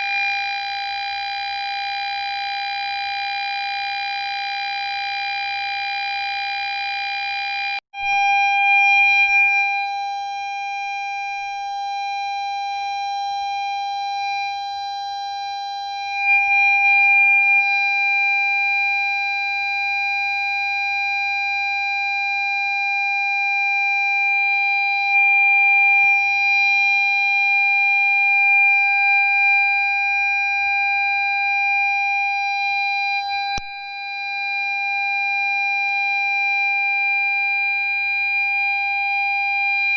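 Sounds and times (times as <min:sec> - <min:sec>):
parking sensor steady tone: 0:00.0 - 0:34.5.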